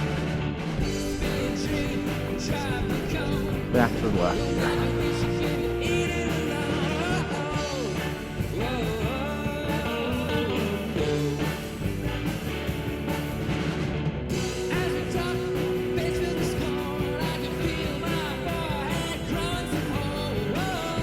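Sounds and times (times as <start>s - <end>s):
rock music with singing: 0.0s - 21.0s.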